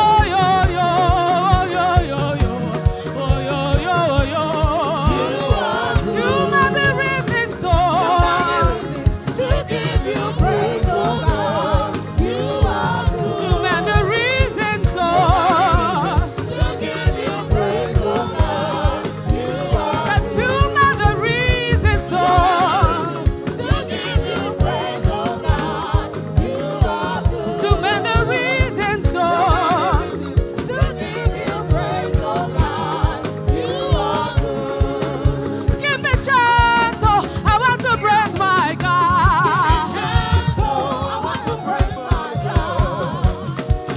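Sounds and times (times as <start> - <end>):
church choir singing: 0.0 - 43.9
live band: 0.0 - 43.9
steady drum beat: 0.0 - 43.9.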